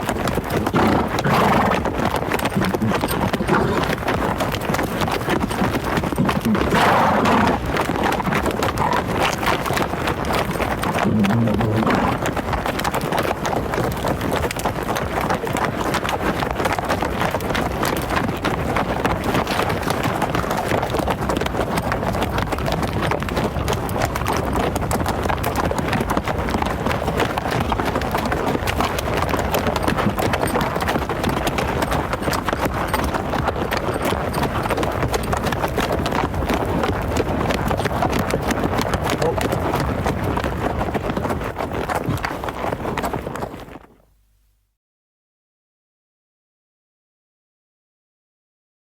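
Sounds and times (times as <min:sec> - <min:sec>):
hooves of running herd: 0:00.0 - 0:44.1.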